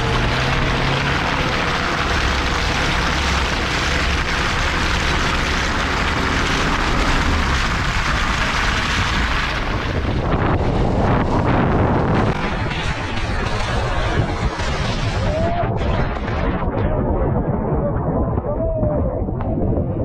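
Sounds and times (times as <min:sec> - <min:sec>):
engine and tyre rumble: 0:00.0 - 0:18.3
wind on microphone: 0:00.0 - 0:20.0.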